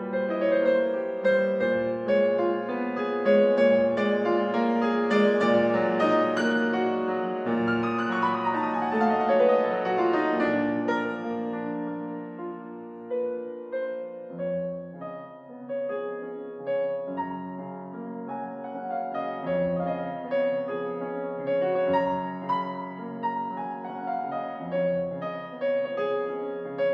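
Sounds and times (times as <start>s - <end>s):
piano music: 0.0s - 26.9s.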